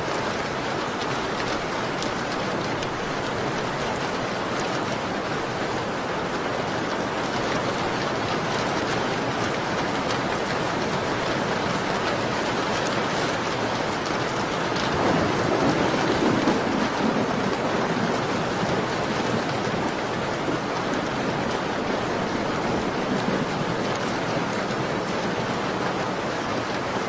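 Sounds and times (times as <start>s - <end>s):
rain on a window: 0.0s - 27.0s.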